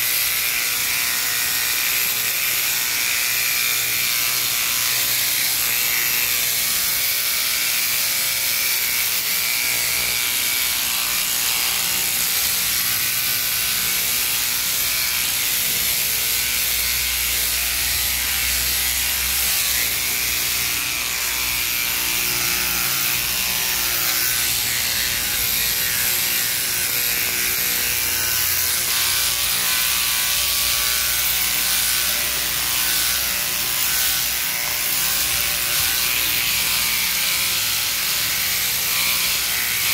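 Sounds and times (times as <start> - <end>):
sheep-shearing handpiece running: 0.0 - 39.9.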